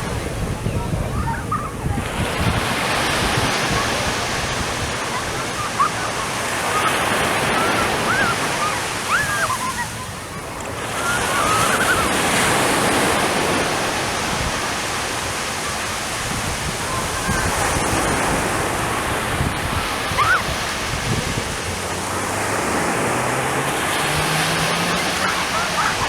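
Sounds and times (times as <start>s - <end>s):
gulls calling: 0.0s - 26.0s
surf washing onto beach: 0.0s - 26.0s
wind buffeting microphone: 0.0s - 26.0s.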